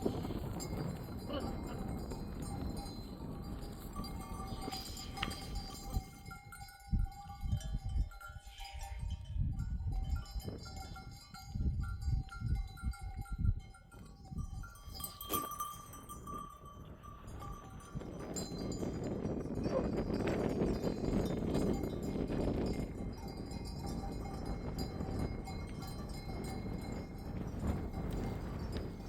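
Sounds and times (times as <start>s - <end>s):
animal bells clinking: 0.0s - 29.0s.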